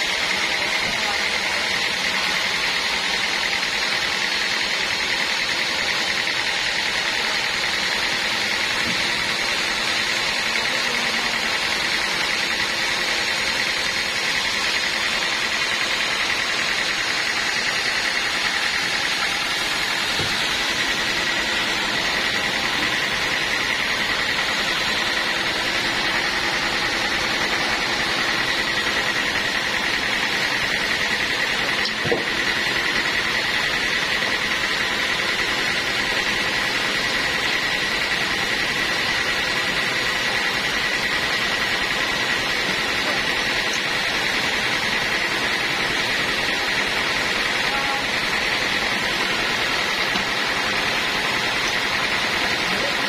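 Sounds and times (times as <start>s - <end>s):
band sawmill whining: 0.0s - 53.0s.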